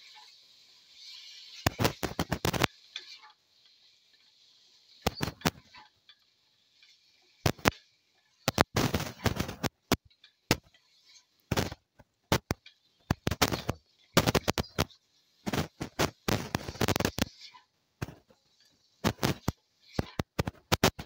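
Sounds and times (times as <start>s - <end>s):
spatula scraping a metal pan: 0.0s - 21.0s.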